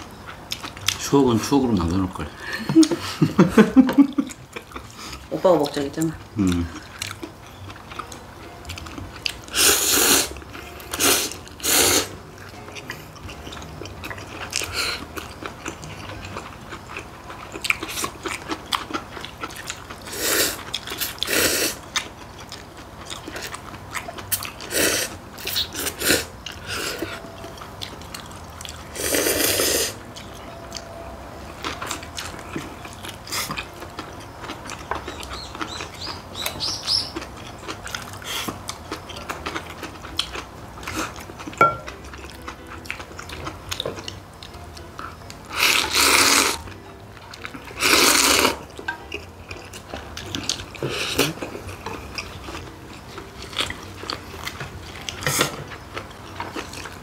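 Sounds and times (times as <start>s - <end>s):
quiet chewing: 0.1s - 1.1s, 2.2s - 57.0s.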